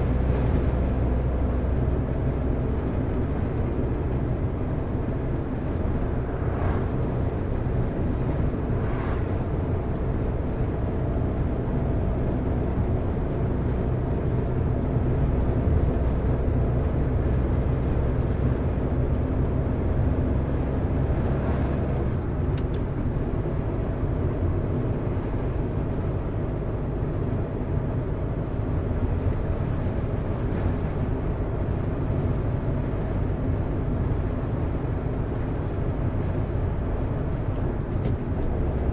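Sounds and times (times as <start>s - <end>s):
car engine hum: 0.0s - 38.9s
road and tyre noise: 0.0s - 38.9s.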